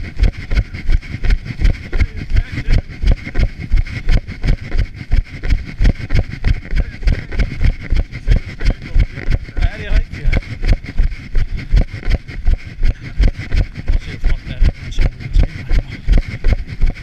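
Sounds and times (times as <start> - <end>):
footsteps running on dirt path: 0.0 - 17.0.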